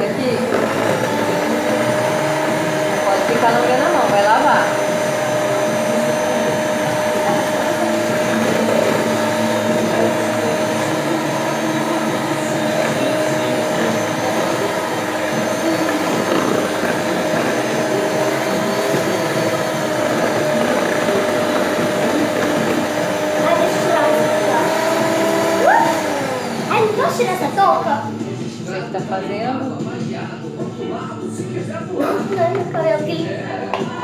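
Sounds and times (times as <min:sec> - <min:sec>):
electric hand mixer running: 0:00.0 - 0:34.0.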